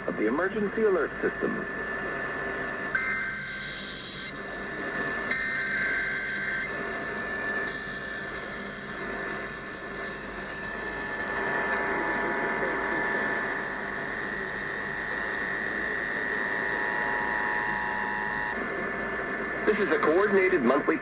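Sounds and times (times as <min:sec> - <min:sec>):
radio static: 0:00.0 - 0:21.0.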